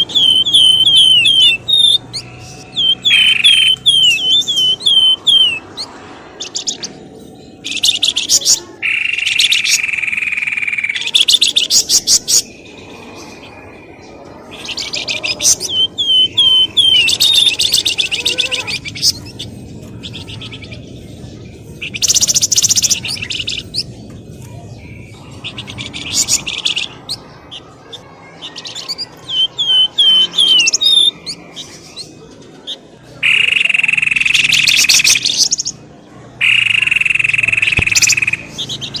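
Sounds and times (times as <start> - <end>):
bird chattering calls: 0.0 - 24.0, 24.8 - 35.8, 36.4 - 39.0.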